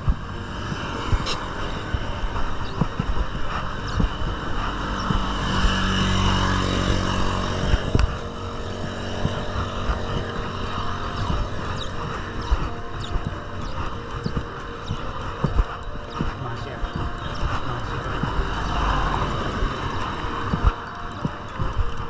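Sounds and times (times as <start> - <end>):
motor tricycle engine passing: 0.0 - 22.0
wind on microphone: 0.0 - 22.0.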